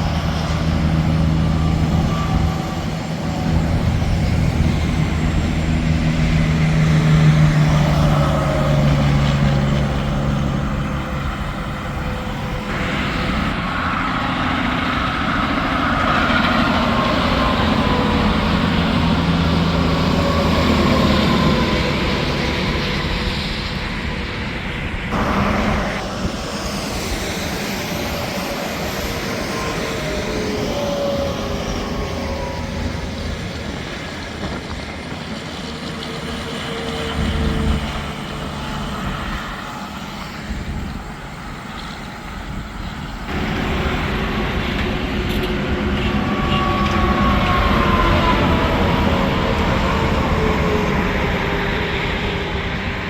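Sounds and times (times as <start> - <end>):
highway traffic with trucks passing: 0.0 - 53.0.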